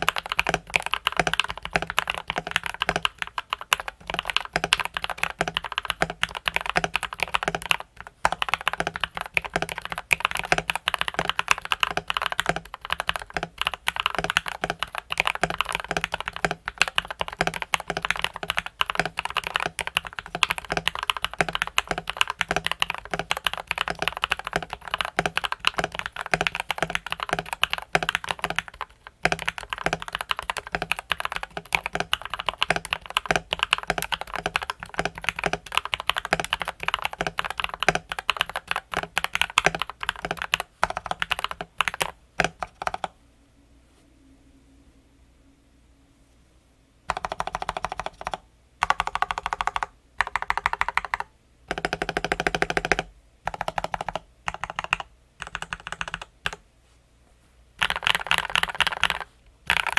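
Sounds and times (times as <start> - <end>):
mechanical keyboard typing: 0.0 - 43.1, 47.1 - 56.6, 57.8 - 59.9.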